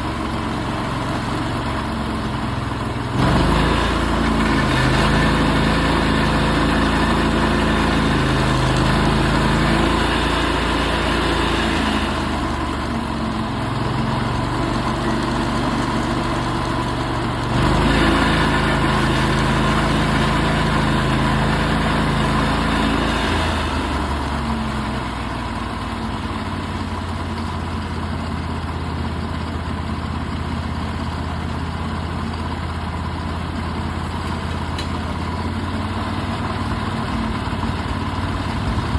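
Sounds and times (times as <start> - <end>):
sawmill engine milling log: 0.0 - 38.9.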